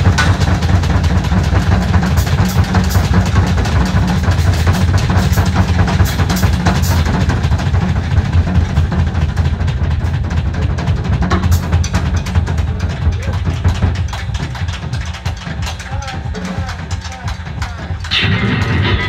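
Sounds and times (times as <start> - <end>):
drum kit played hard: 0.0 - 19.0.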